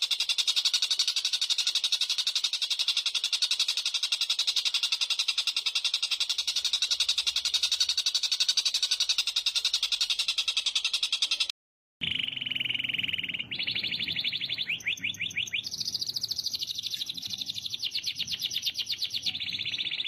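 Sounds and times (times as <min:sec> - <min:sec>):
songbird high-pitched trill: 0:00.0 - 0:20.0.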